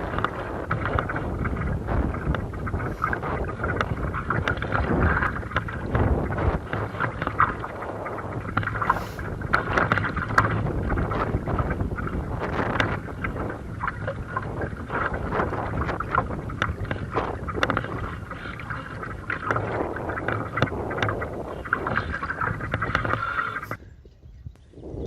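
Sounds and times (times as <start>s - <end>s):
water splashing against hull: 0.0s - 24.0s
wind buffeting microphone: 0.0s - 25.0s.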